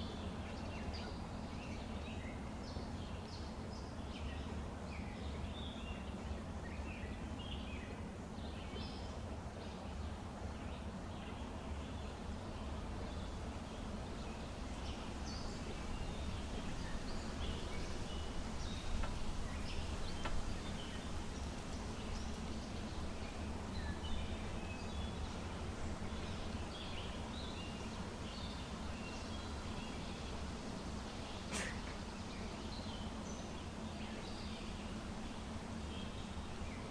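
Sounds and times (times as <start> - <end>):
small birds chirping: 0.0 - 36.9
wind: 0.0 - 36.9.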